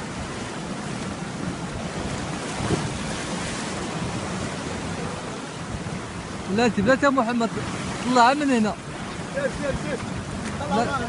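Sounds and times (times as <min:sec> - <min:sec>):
sea surf breaking: 0:00.0 - 0:11.0
wind on microphone: 0:00.0 - 0:11.0.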